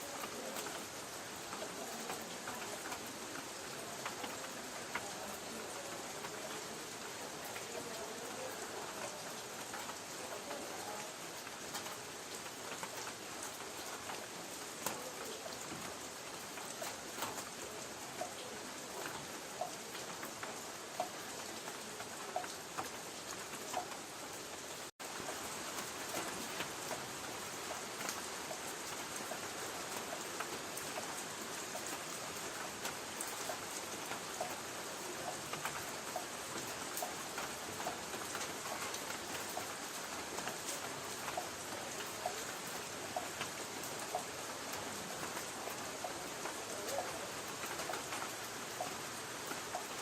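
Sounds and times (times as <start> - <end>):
rain hiss on tin roof: 0.0 - 50.0.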